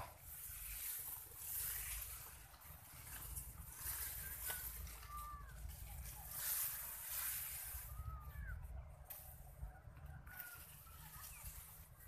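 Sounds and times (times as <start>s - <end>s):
rice plants rustling: 0.0s - 12.0s.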